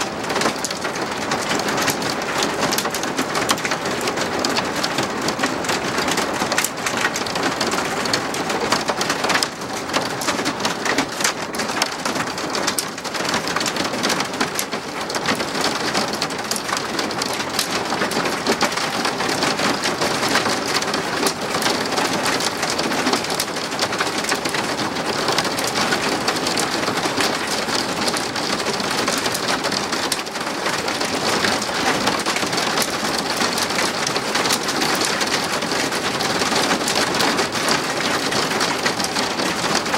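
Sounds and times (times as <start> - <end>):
hail and rain pelting down: 0.0 - 39.9.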